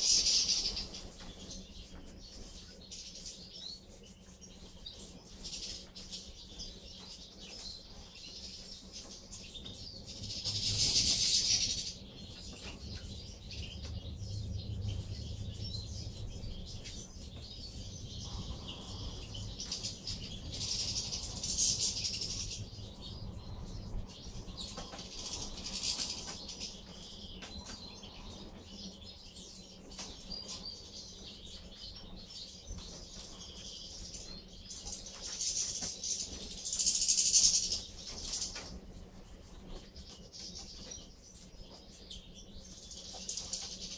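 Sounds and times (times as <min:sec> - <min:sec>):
finches twittering and chirping: 0:00.0 - 0:43.9.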